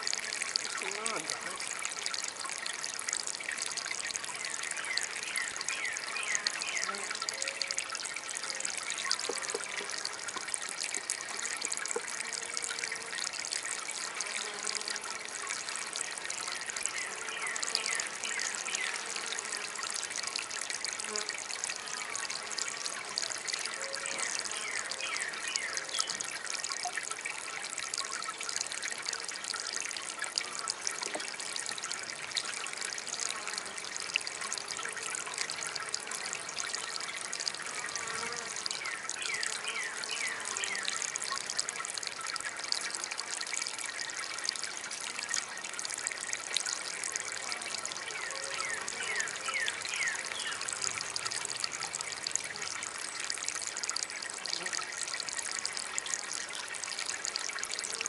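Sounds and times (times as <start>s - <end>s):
water fountain trickling: 0.0s - 58.0s.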